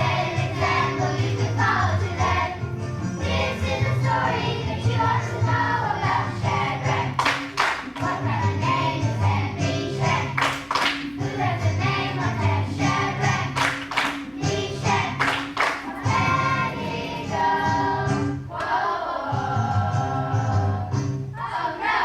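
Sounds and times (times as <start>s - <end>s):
children's choir singing with instruments: 0.0s - 22.0s.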